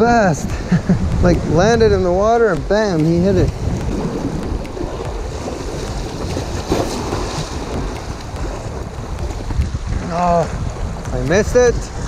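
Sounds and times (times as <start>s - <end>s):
lake waves washing on shore: 0.0s - 12.0s
wind buffeting microphone: 0.0s - 12.0s.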